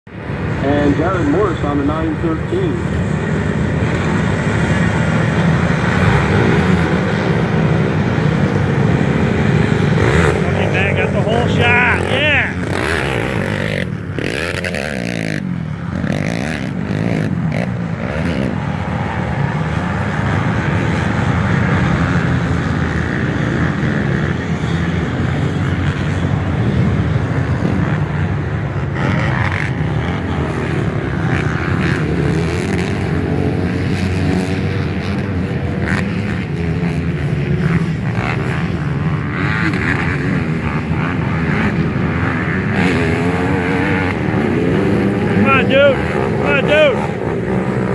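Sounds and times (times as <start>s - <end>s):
motocross bikes racing: 0.1s - 47.9s.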